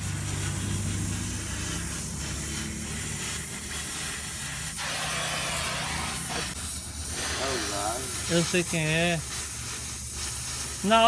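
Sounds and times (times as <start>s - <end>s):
pressure washer water spray hiss: 0.0s - 11.0s.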